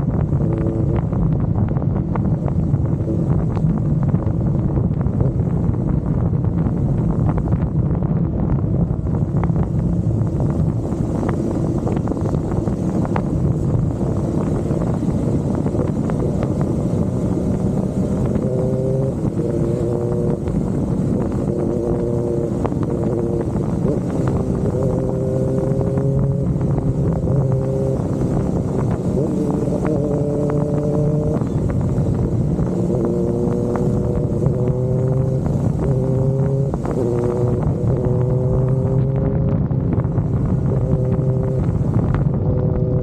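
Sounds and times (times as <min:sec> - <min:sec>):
motorcycle engine revving: 0:00.0 - 0:43.0
wind and road noise: 0:00.0 - 0:43.0.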